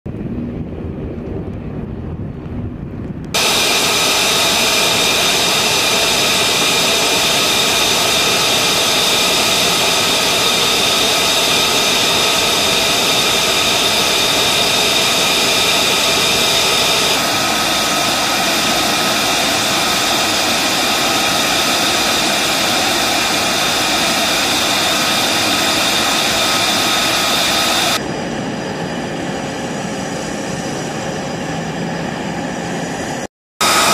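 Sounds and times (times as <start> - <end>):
jet engines running: 0.1 - 33.9.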